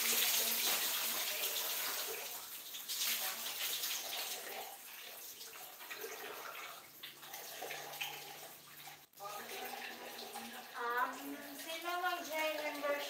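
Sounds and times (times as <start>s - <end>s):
hair scrubbed with wet splashing: 0.0s - 13.0s.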